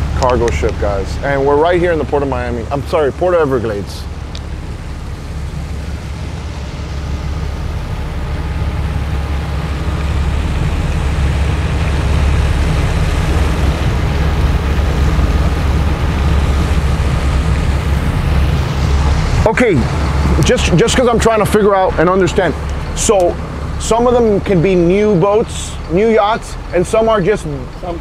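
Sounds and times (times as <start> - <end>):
boat engine low drone: 0.0 - 28.0.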